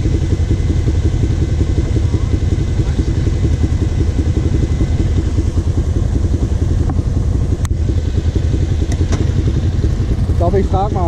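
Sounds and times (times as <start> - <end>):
quad bike engines idling: 0.0 - 11.0.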